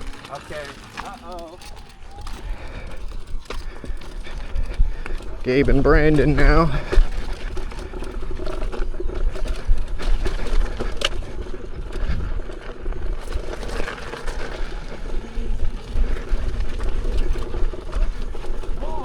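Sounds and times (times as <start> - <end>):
wheel rattling over dirt and rocks: 0.0 - 19.0
wind rumbling on microphone: 0.0 - 19.0.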